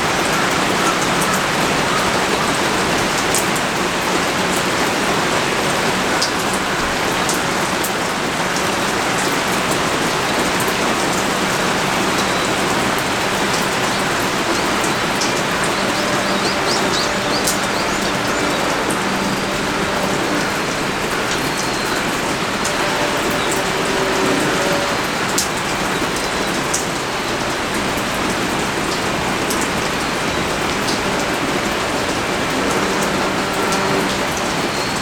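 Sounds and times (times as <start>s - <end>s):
pouring rain: 0.0s - 35.0s
raindrops ticking close by: 0.0s - 35.0s.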